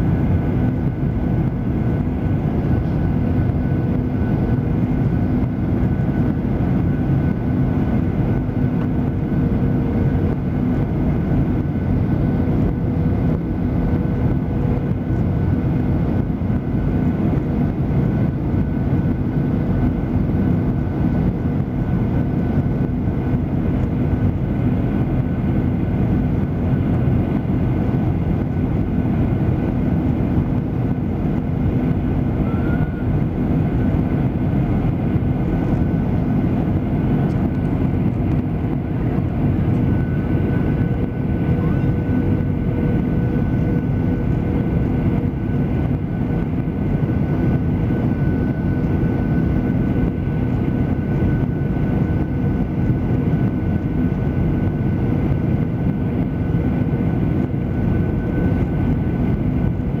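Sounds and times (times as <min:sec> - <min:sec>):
airliner cabin engine noise: 0:00.0 - 1:00.0.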